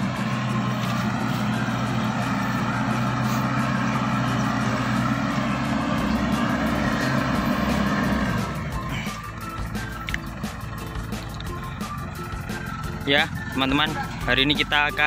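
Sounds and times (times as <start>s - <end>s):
harvester engine drone: 0.0s - 15.0s
whirring harvesting machinery: 0.0s - 15.0s.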